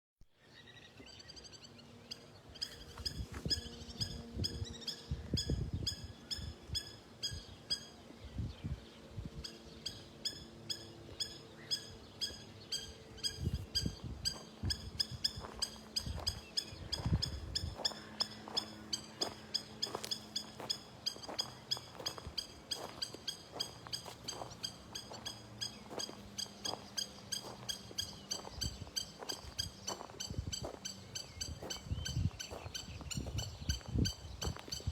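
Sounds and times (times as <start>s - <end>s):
bird calling: 0.4s - 8.4s, 9.4s - 34.9s.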